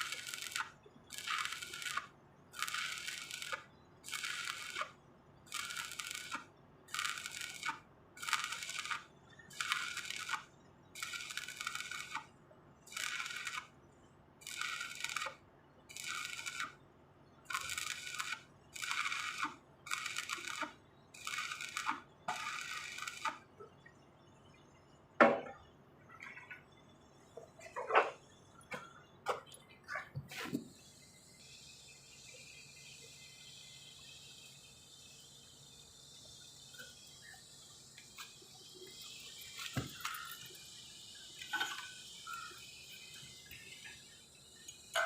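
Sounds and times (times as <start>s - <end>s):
arc welding crackling: 0.0s - 13.8s, 14.4s - 16.8s, 17.5s - 23.5s, 30.3s - 45.0s.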